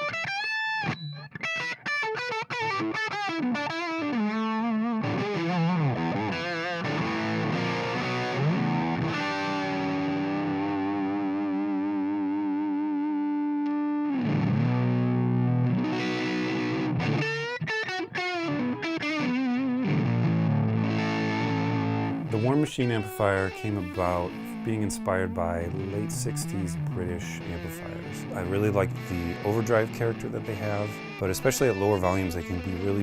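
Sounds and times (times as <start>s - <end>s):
overdriven electric guitar: 0.0s - 33.0s.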